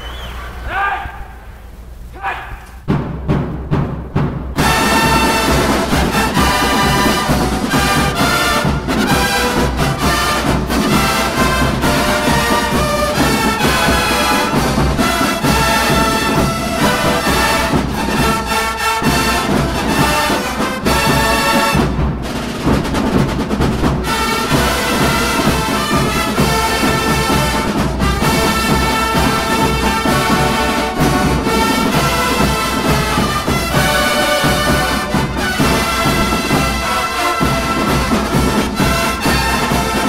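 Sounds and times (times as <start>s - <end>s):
drums beating: 0.0s - 40.0s
brass bugles playing chords: 4.6s - 40.0s.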